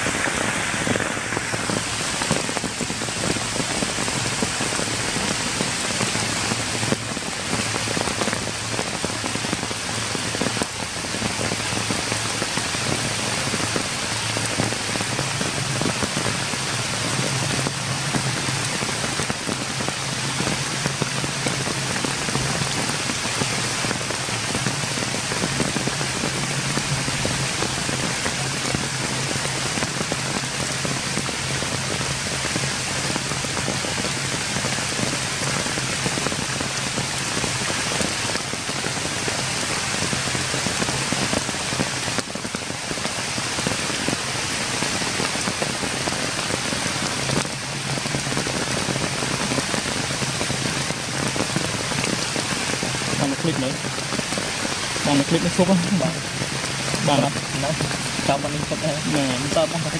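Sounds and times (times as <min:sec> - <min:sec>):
rain falling on wet ground: 0:00.0 - 0:59.9.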